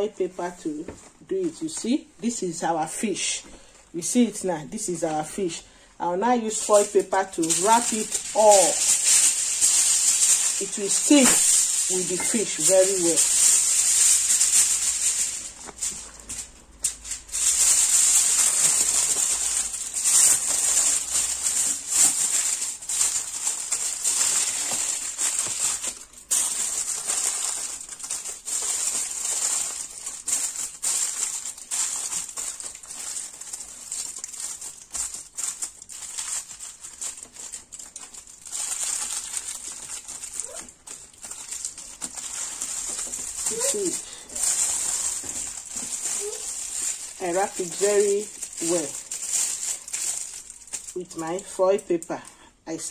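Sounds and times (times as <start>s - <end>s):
aluminium foil crinkling: 0.0s - 52.9s.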